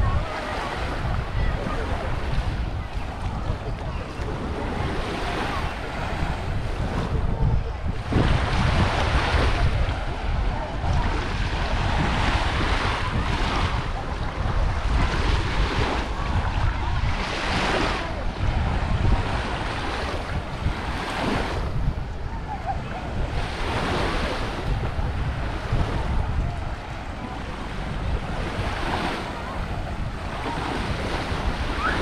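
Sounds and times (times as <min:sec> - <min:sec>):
sea waves breaking on shore: 0:00.0 - 0:32.0
wind buffeting microphone: 0:00.0 - 0:32.0.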